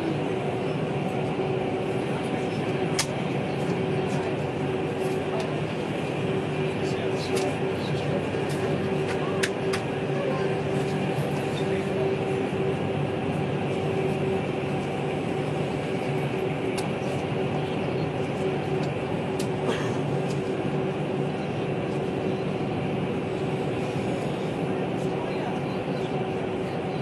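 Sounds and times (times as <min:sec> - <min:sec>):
vehicle running hum: 0:00.0 - 0:27.0.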